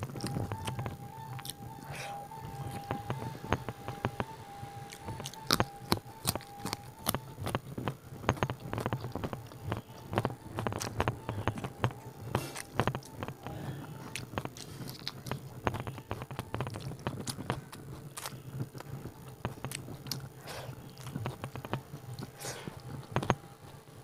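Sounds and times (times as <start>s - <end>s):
chewing with wet mouth clicks: 0.0s - 23.8s
fingers working rice on a plate: 0.0s - 23.8s.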